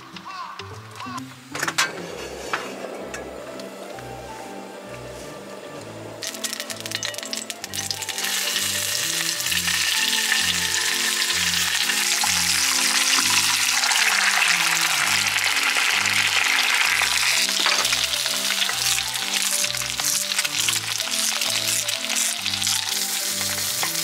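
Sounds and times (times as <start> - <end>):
bacon and eggs sizzling: 1.4 - 24.0.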